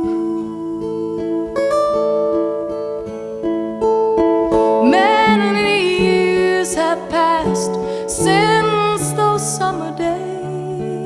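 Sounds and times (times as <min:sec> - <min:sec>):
woman's wordless singing: 0:00.0 - 0:02.6, 0:04.6 - 0:11.0
fingerpicked acoustic guitar: 0:00.0 - 0:11.0.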